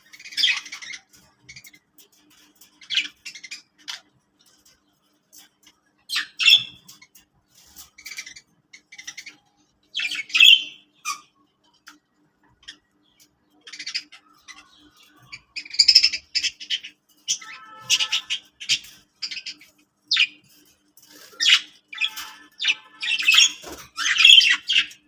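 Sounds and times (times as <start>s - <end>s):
budgies chattering and squawking: 0.0s - 25.0s.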